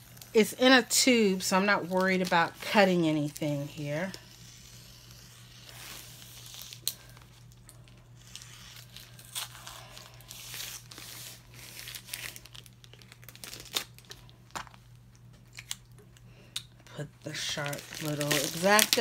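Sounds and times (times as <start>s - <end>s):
packaging crinkling and tearing: 1.8s - 16.0s, 16.8s - 19.0s.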